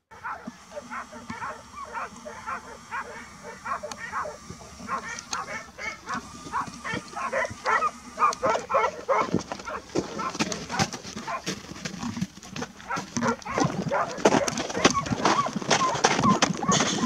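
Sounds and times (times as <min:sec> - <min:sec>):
dogs barking and yelping: 0:00.1 - 0:11.6, 0:12.8 - 0:17.0.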